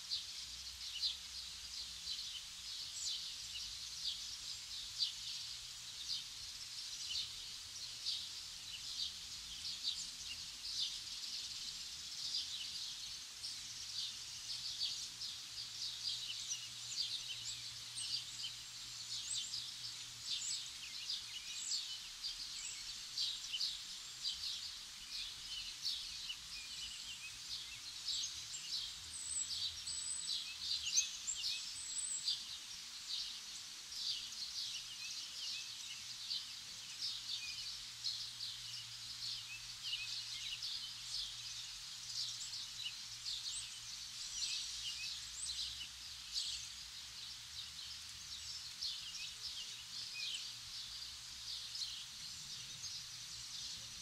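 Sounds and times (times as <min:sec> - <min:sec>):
faint background hiss: 0:00.0 - 0:54.0
small birds chirping: 0:00.0 - 0:54.0.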